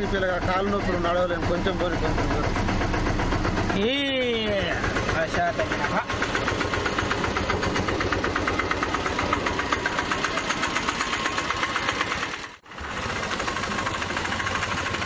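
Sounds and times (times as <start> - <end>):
auto-rickshaw engine running: 0.0 - 15.0.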